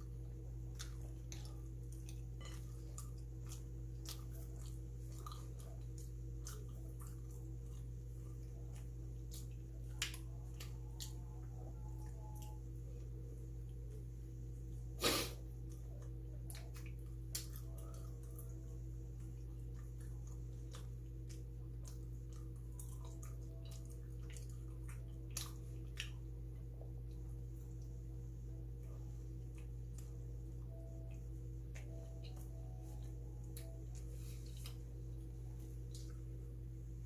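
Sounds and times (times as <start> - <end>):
steady low hum: 0.0 - 37.0
chewing clicks and smacks: 0.2 - 12.6, 15.6 - 27.9, 28.8 - 36.3.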